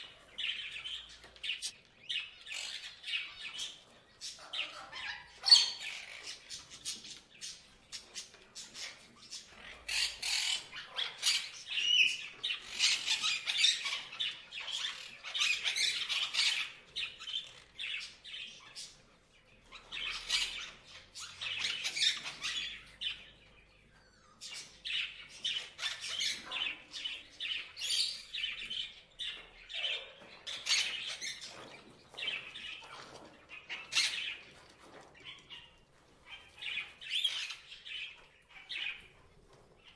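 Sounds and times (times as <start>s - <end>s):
parrots chirping and squawking: 0.0s - 7.2s, 8.6s - 18.9s, 19.7s - 23.3s, 24.0s - 34.5s, 35.2s - 39.1s.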